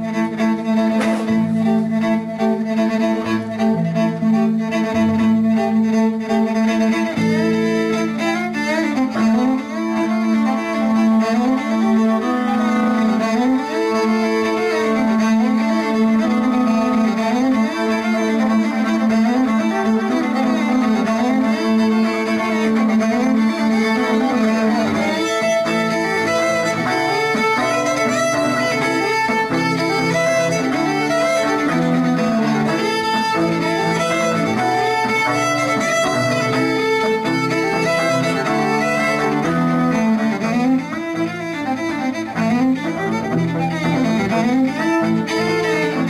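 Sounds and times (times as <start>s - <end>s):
violins and cellos playing: 0.0s - 46.0s.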